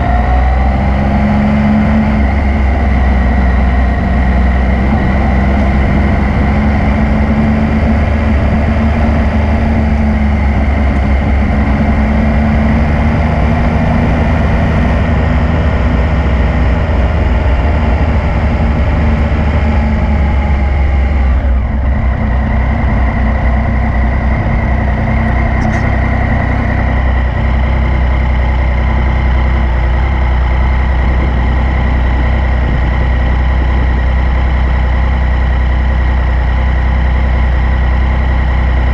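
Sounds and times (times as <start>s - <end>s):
motorcycle engine running at low revs: 0.0s - 38.9s.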